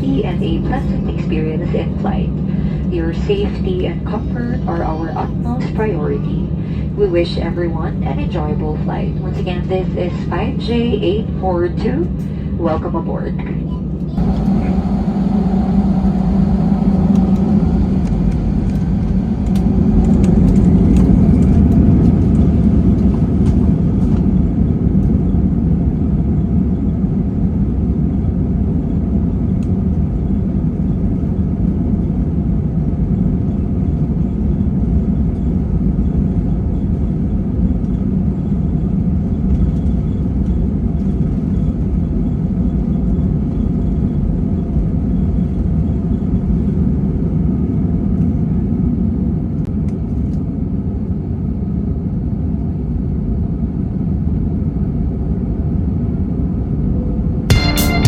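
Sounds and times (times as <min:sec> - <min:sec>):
airliner engines and airflow: 0:00.0 - 0:58.0.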